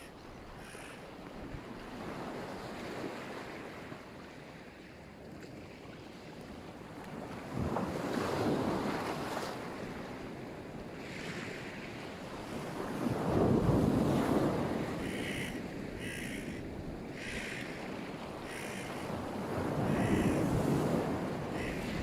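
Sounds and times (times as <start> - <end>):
waves breaking on shore: 0.0 - 22.0.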